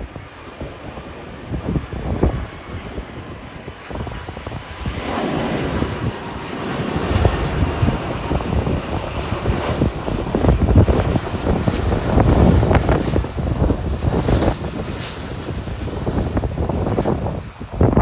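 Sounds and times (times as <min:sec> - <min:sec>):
airliner engines roaring: 0:00.0 - 0:18.0
wind buffeting microphone: 0:00.0 - 0:18.0.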